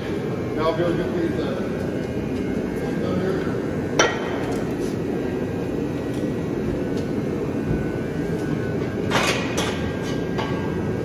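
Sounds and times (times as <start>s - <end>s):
low rushing background noise: 0.0s - 11.0s.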